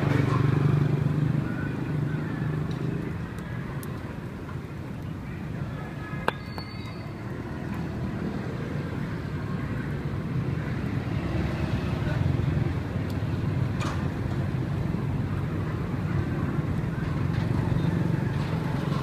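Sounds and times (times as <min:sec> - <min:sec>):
traffic rumble: 0:00.0 - 0:19.0
vehicle engine: 0:00.0 - 0:19.0.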